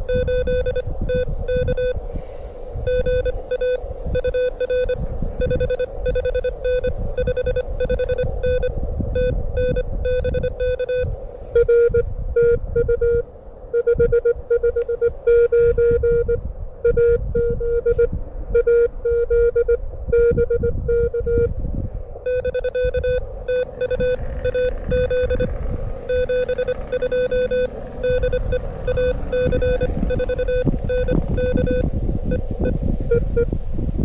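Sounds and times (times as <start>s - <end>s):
morse code tone: 0.0s - 2.0s, 2.8s - 21.5s, 22.2s - 33.6s
wind rumble on microphone: 0.0s - 34.0s.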